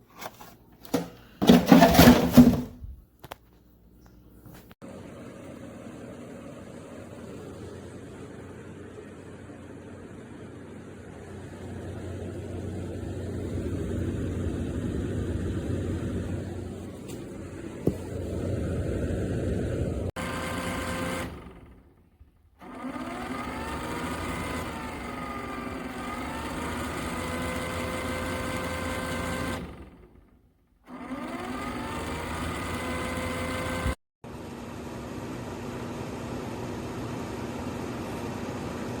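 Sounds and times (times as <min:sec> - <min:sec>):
electric fan motor whine: 0:04.8 - 0:30.3, 0:30.9 - 0:39.0.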